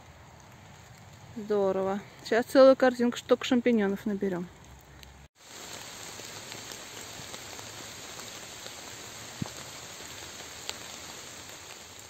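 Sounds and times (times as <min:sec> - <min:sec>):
rain falling on leaves: 0:00.0 - 0:04.0, 0:04.6 - 0:12.0.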